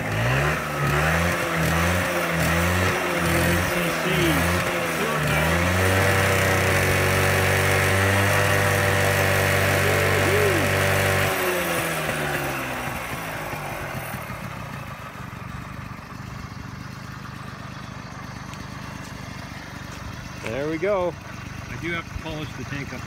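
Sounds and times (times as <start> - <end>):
moped engine idling: 0.0 - 23.0.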